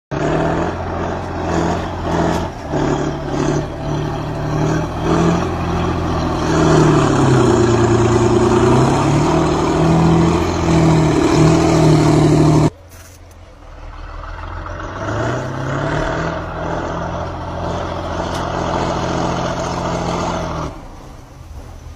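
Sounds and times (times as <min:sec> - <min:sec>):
tractor diesel engine running hard: 0:00.1 - 0:12.8, 0:13.5 - 0:21.9.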